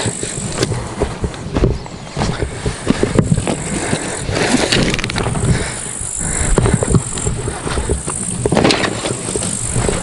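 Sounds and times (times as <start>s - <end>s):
quick run of clicks: 0.0s - 10.0s
steady low rumble: 0.0s - 10.0s.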